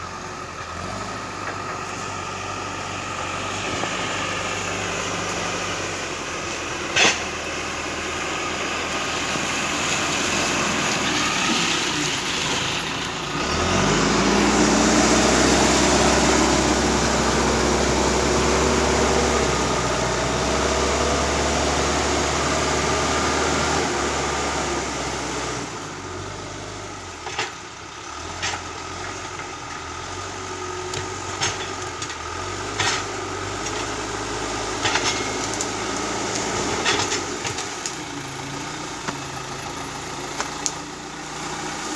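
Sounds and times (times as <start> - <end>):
backhoe diesel engine running: 0.0 - 41.9.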